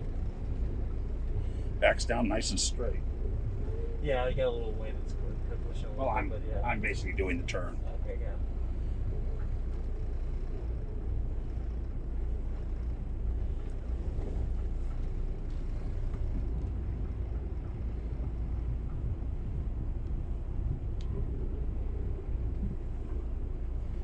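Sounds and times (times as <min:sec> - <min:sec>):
boat diesel engines idling: 0:00.0 - 0:24.0.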